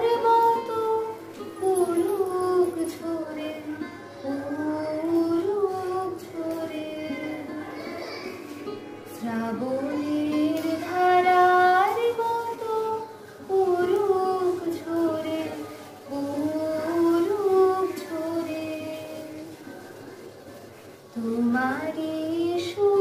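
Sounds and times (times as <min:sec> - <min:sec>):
girl singing: 0:00.0 - 0:19.8, 0:21.1 - 0:23.0.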